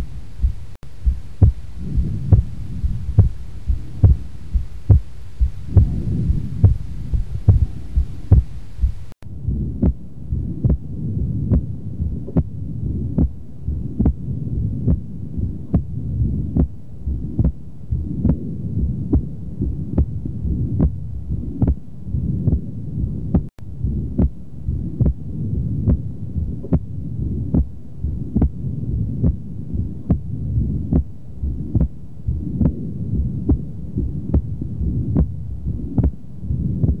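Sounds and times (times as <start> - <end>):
heartbeat sounds: 0.0 - 37.0
steady low rumble: 0.0 - 37.0.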